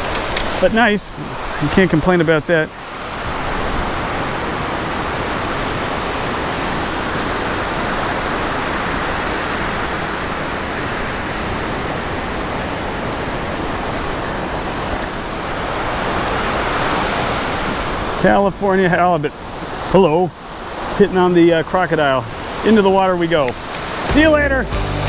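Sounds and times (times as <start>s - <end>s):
surf breaking on a beach: 0.0s - 24.4s.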